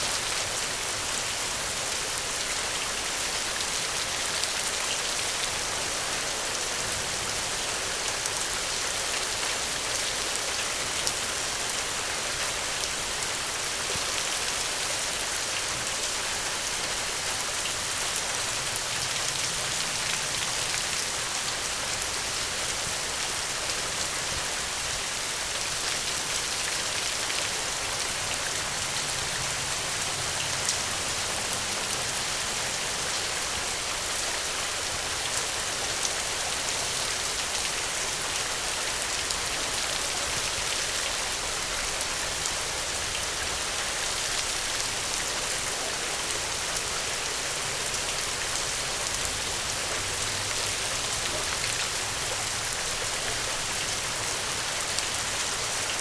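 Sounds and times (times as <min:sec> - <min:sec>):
gentle rain: 0:00.0 - 0:56.0.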